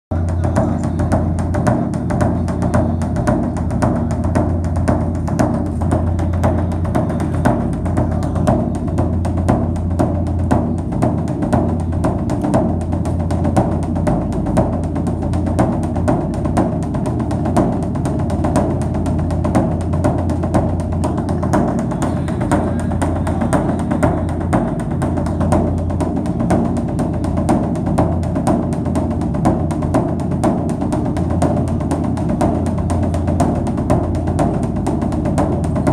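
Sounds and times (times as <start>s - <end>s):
steady drum beat: 0.1s - 35.9s.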